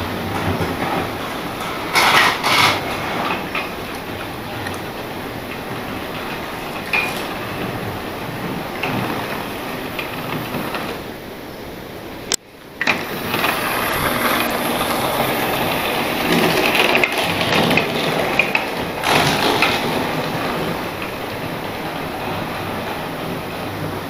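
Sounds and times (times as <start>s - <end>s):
wheels rattling over rails: 0.0s - 24.0s.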